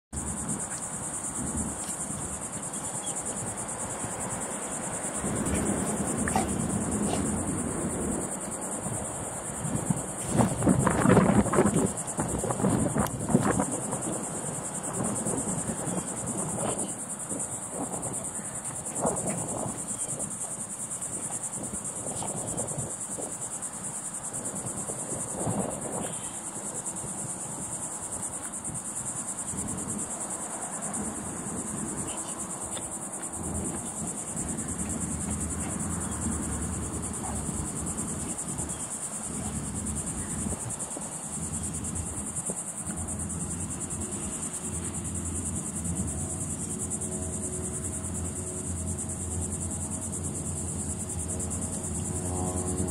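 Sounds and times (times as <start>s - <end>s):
high-pitched insect chorus: 0.1s - 52.9s.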